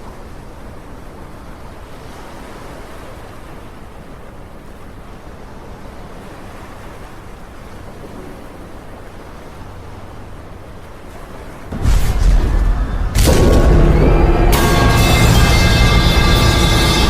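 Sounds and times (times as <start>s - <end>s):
rushing sea and wind: 0.0s - 17.0s.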